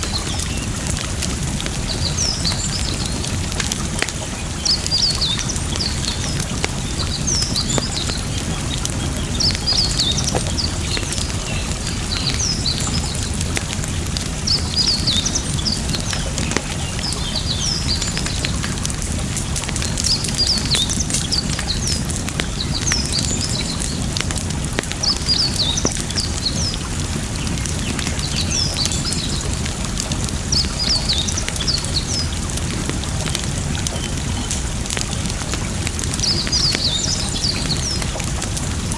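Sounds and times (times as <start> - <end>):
campfire crackling and popping: 0.0 - 38.9
flowing water rushing: 0.0 - 38.9
small birds chirping: 0.0 - 38.9.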